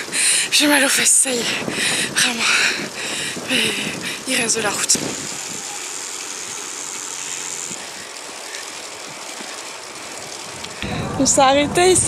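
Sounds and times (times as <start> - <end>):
bicycle rolling on pavement: 0.0 - 12.0
wind: 0.0 - 12.0.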